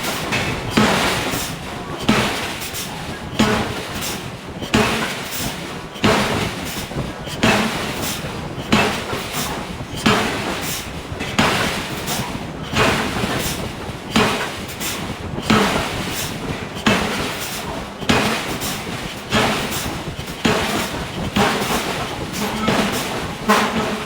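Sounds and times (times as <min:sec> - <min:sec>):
forging hammer striking steel: 0:00.0 - 0:24.0
machinery noise: 0:00.0 - 0:24.0.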